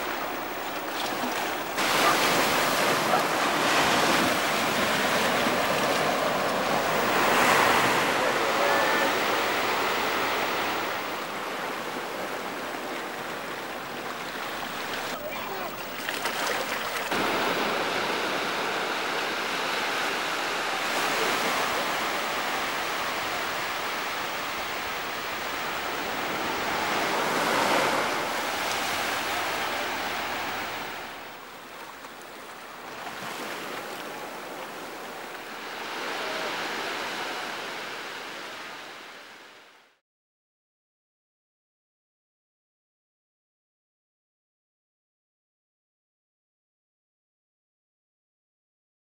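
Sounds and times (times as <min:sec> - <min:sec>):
small waves washing: 0:00.0 - 0:39.7.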